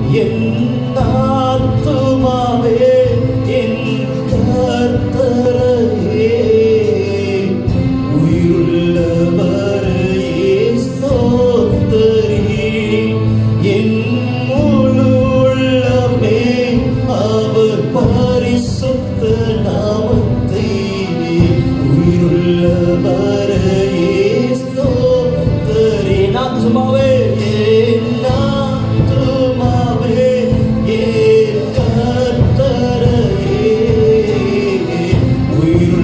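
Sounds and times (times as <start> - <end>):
instrumental backing chords: 0.0 - 36.0
man singing into a microphone: 0.0 - 36.0.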